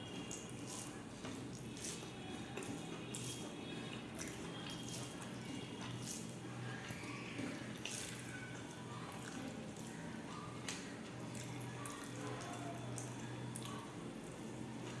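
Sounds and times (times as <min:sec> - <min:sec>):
wet chewing sounds: 0:00.0 - 0:15.0.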